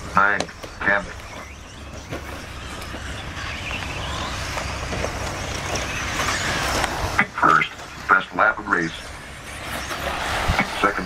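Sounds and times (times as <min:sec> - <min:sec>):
rc car motor whine: 0:00.0 - 0:11.0
tyres on dirt: 0:00.0 - 0:11.0.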